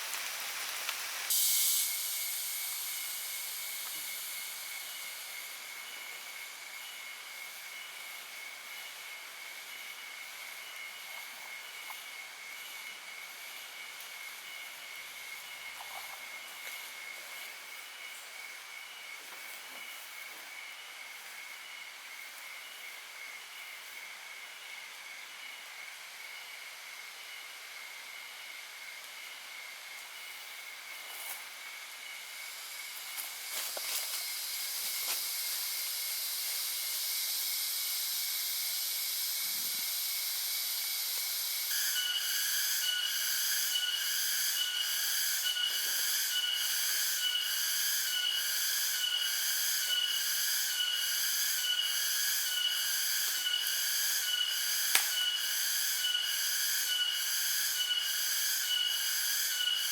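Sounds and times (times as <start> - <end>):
insects droning: 0.0 - 59.9
pulsing insect chorus: 0.0 - 59.9.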